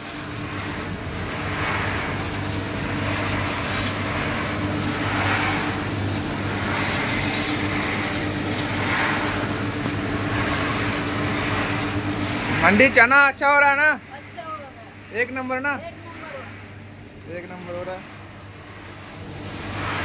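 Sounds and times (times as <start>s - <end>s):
chickpeas rattling in a drum: 0.0s - 17.6s
motor hum: 0.0s - 20.0s.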